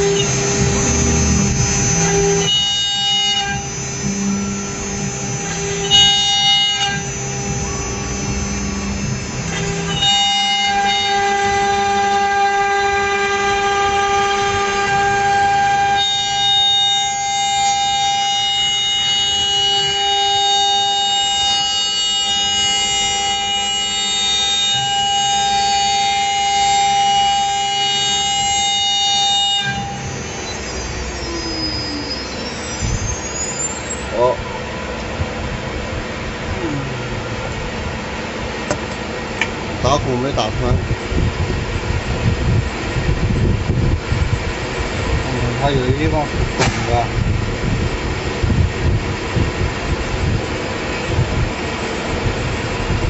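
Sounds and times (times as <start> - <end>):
router spindle whining: 0.0 - 53.0.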